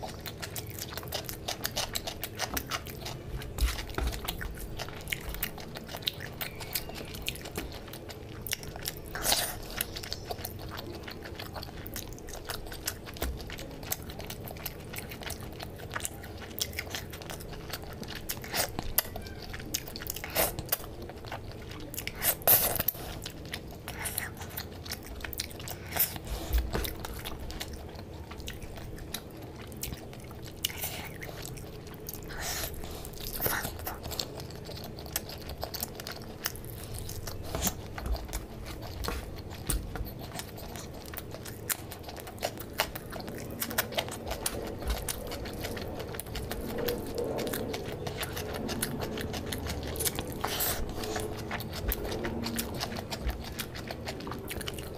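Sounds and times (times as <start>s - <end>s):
wet chewing and biting: 0.0s - 54.9s.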